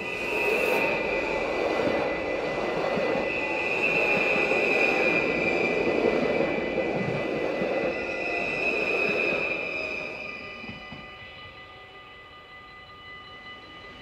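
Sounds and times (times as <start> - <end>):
high-pitched ringing tone: 0.0 - 14.0
train wheels rumbling on rails: 0.0 - 14.0.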